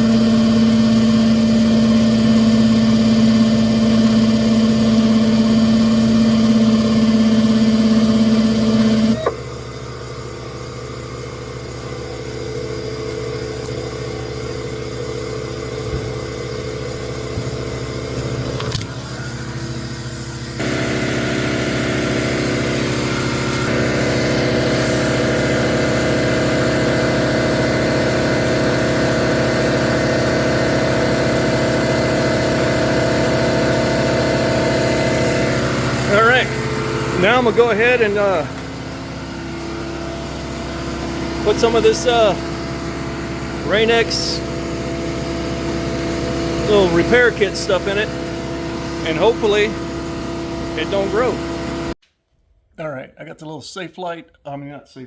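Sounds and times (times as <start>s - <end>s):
machine hum with engine-like tones: 0.0s - 52.0s.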